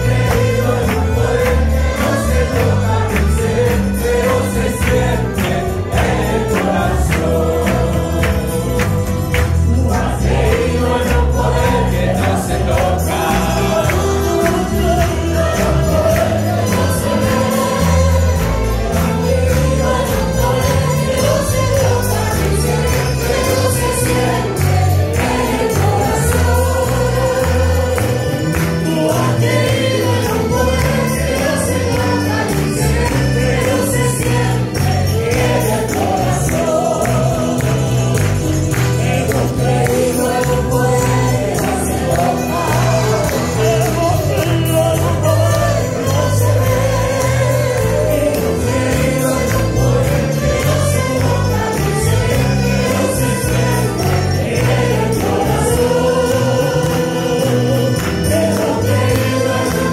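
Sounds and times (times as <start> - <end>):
church band with guitars and violins: 0.0 - 59.9
congregation and choir singing: 0.0 - 59.9
hand-clapping: 0.0 - 59.9.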